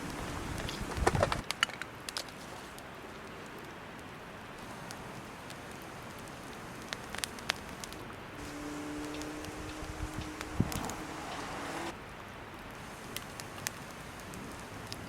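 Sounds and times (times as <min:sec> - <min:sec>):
campfire burning: 0:00.0 - 0:15.0
fire crackles and pops: 0:00.0 - 0:15.0.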